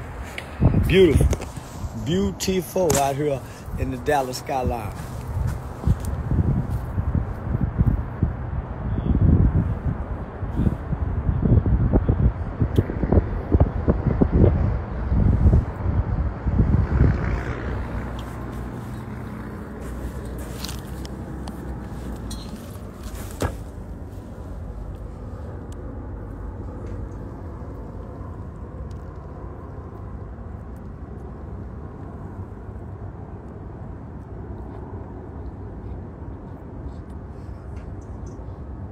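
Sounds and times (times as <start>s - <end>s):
wind buffeting microphone: 0.0s - 33.3s.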